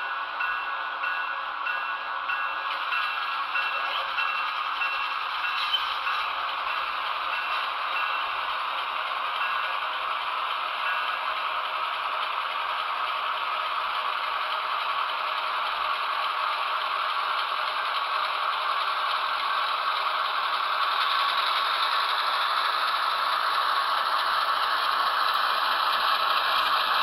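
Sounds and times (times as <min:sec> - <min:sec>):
model locomotive diesel sound: 0:00.0 - 0:27.0.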